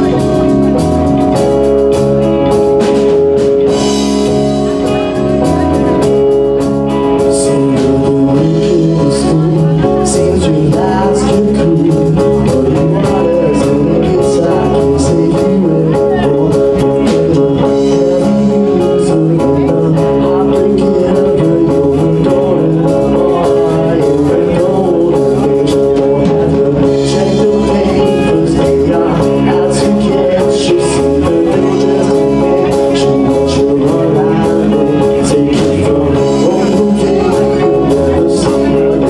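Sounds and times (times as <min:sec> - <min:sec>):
drum kit with cymbals: 0:00.0 - 0:39.0
electric bass: 0:00.0 - 0:39.0
electric guitar: 0:00.0 - 0:39.0
stage piano: 0:00.0 - 0:39.0.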